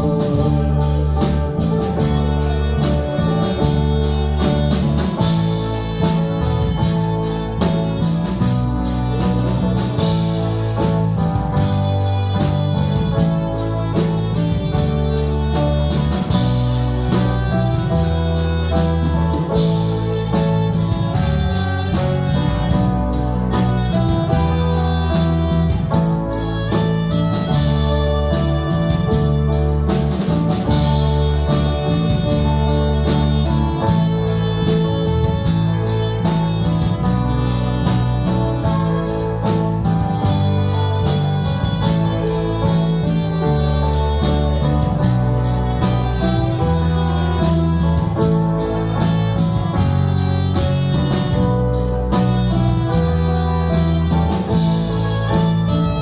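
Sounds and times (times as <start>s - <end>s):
guitar and bass chords: 0.0s - 56.0s
steady drum beat: 0.0s - 56.0s.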